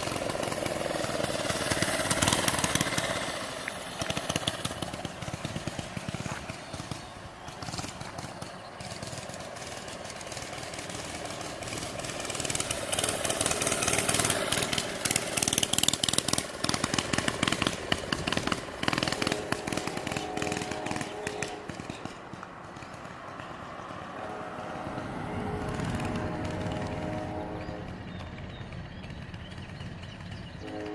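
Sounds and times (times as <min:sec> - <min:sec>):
mini bike engine passing: 0:00.0 - 0:30.9.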